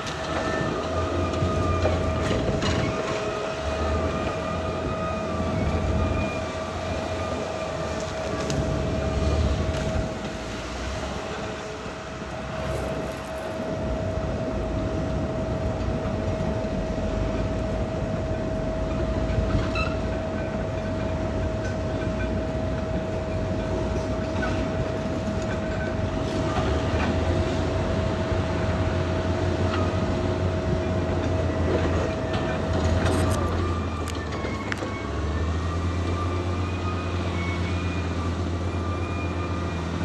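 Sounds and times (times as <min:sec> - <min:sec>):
bulldozer diesel engine running: 0:00.0 - 0:40.0
bulldozer tracks clanking: 0:00.0 - 0:40.0
constant high whine: 0:00.0 - 0:40.0.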